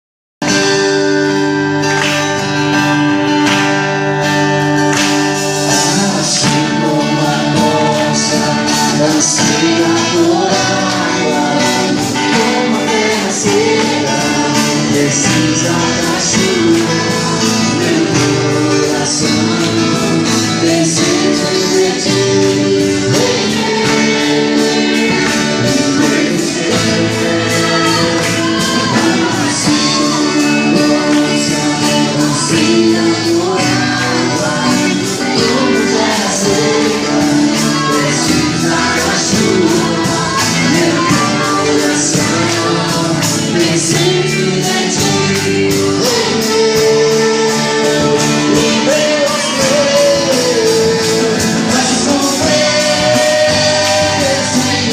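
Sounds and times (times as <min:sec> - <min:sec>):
band accompaniment with guitar: 0:00.4 - 0:54.9
vocal group singing: 0:00.4 - 0:54.9.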